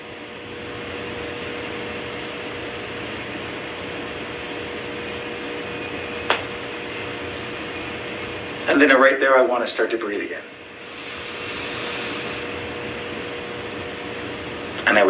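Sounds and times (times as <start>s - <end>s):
faint steady hum: 0.0s - 15.0s
room noise hiss: 0.0s - 15.0s.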